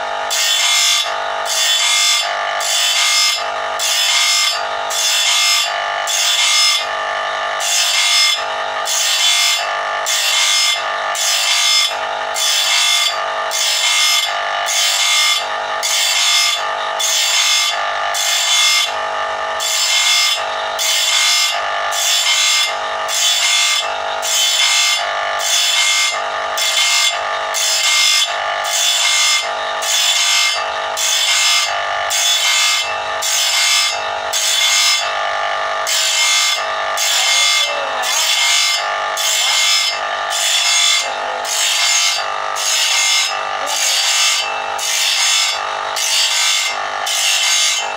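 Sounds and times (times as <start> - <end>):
grinder motor whine: 0.0 - 47.9
steel rasping on grinding wheel: 0.0 - 47.9.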